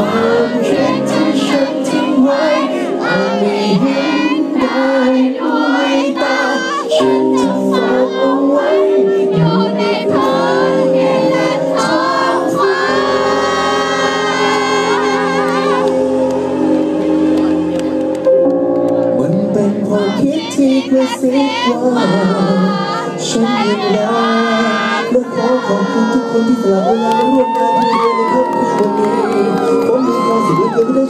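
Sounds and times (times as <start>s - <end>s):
man singing into a microphone: 0.0s - 15.4s, 19.1s - 31.0s.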